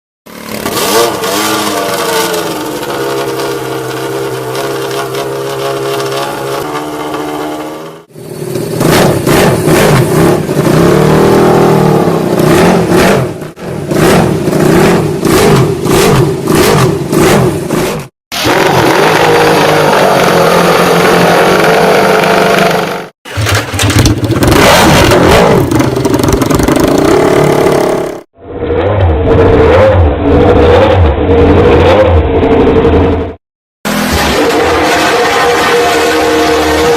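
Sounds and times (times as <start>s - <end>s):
racing motorcycle engines revving: 0.3s - 36.9s.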